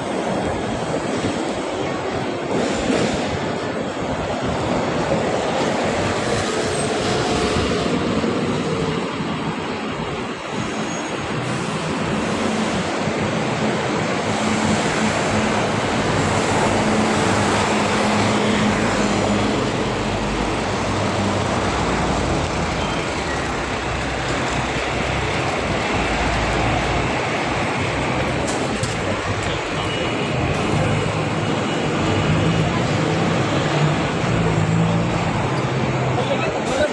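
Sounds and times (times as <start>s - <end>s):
city street traffic: 0.0s - 36.9s.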